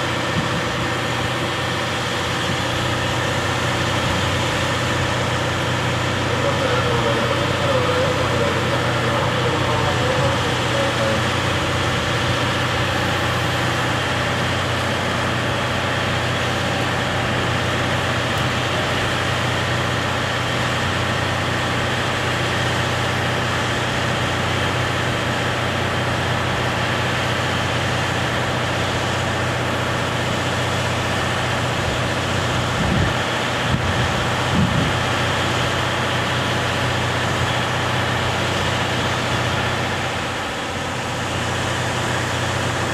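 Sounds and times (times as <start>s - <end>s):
diesel railcars idling: 0.0s - 42.9s.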